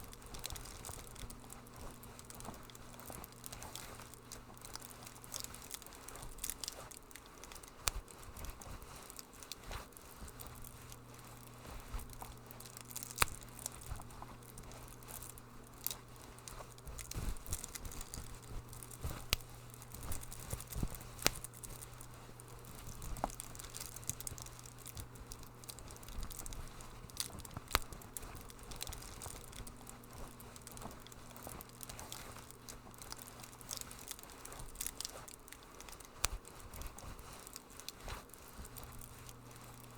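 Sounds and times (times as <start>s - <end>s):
low steady hum: 0.0s - 39.9s
wood fire crackling: 0.0s - 39.9s.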